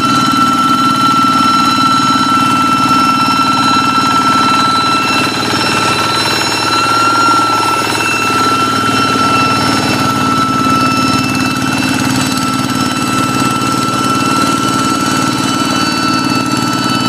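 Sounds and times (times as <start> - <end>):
diesel tractor engine running: 0.0 - 17.0
high engine whistle: 0.0 - 17.0.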